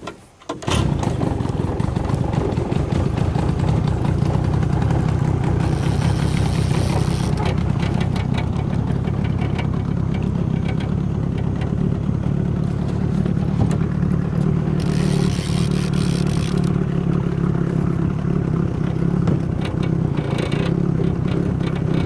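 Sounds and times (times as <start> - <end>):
outboard motor running: 0.6 - 22.0.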